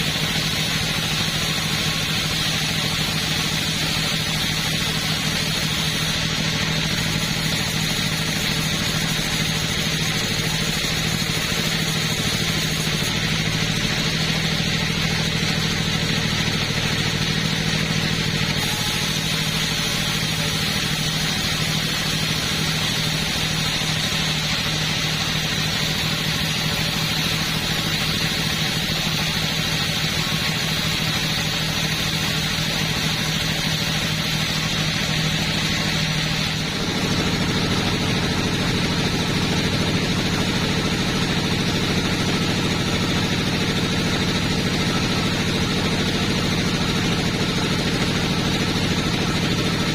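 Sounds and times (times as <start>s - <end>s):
chainsaw running: 0.0s - 49.9s.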